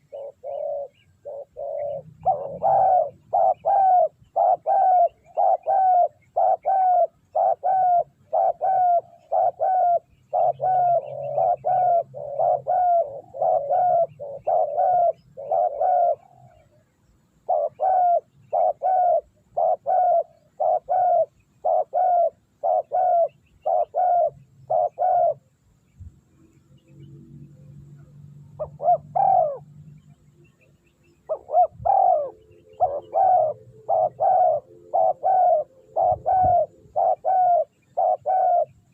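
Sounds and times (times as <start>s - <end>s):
dove cooing: 0.0s - 16.8s, 17.4s - 25.5s, 28.0s - 30.0s, 31.2s - 38.9s.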